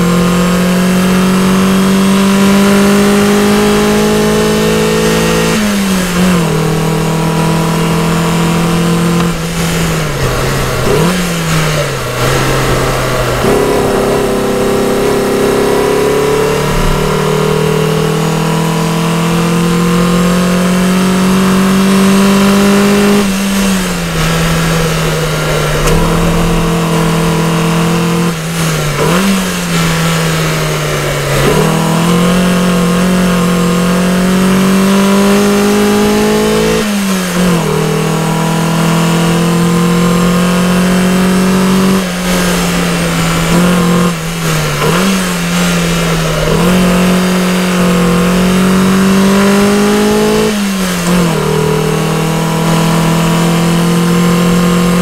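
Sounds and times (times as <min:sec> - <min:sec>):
car engine revving under throttle: 0:00.0 - 0:55.0.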